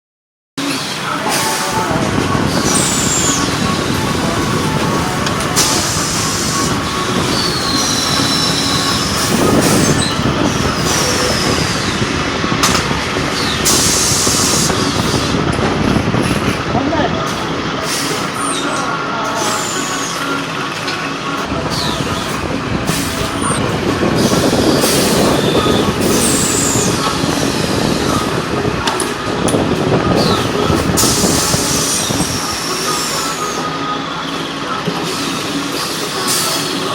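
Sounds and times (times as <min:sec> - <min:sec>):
ironing press mechanical din: 0:00.6 - 0:36.9
high squealing tones: 0:01.4 - 0:16.6, 0:21.5 - 0:36.9.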